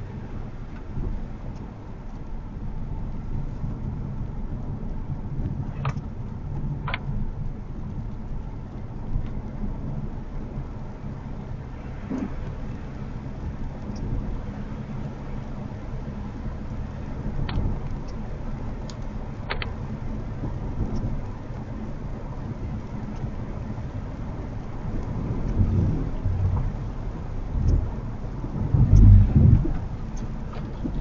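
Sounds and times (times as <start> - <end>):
tyre and road noise: 0.0 - 31.0.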